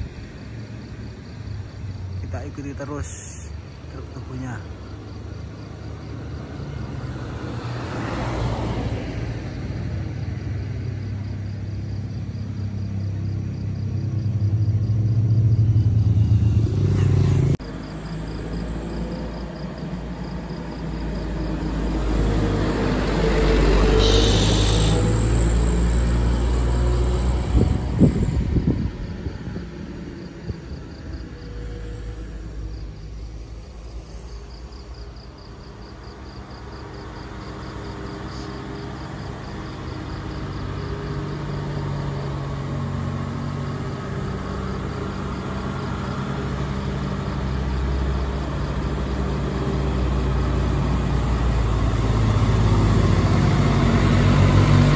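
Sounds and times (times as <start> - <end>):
diesel trucks rumbling past: 0.0 - 54.9.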